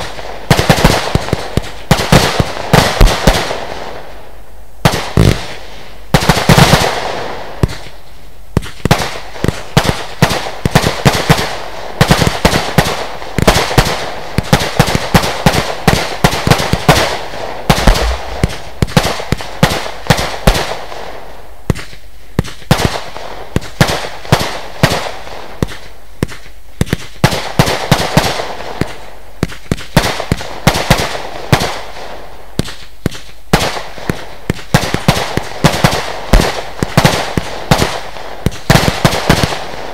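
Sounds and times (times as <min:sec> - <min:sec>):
firework bangs and pops: 0:00.0 - 0:04.1, 0:04.8 - 0:39.9.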